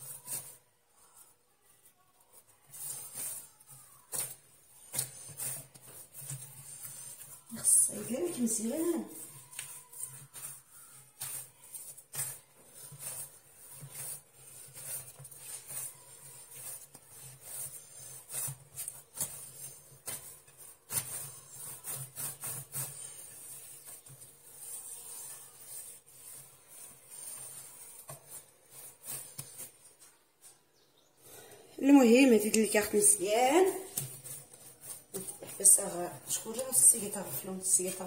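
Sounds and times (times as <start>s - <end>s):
hands kneading dough in a clay dish: 0.0s - 38.0s.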